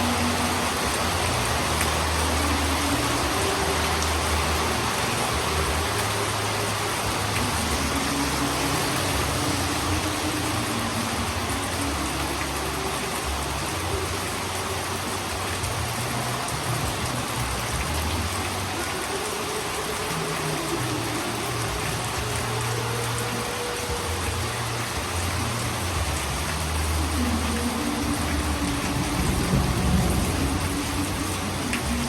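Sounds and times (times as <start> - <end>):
heavy rain on a roof: 0.0 - 32.0.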